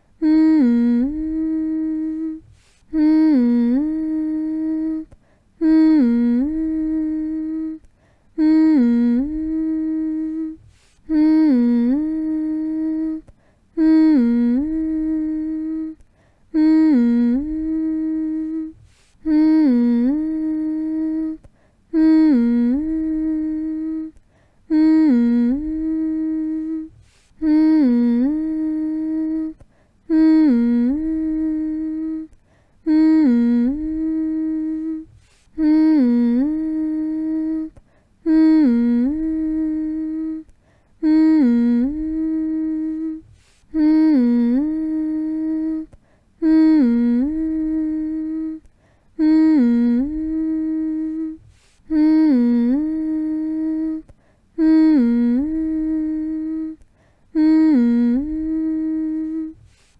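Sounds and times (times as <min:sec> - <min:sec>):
person humming a lullaby: 0:00.0 - 0:59.9.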